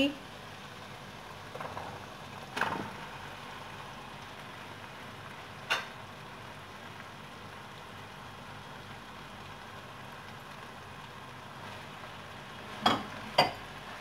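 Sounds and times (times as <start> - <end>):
pan sizzling: 0.0 - 14.0.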